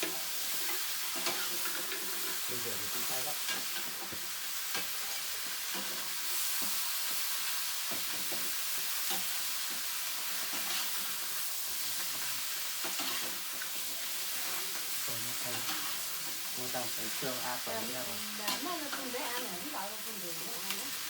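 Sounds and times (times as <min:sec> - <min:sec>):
steady sizzling hiss: 0:00.0 - 0:21.0.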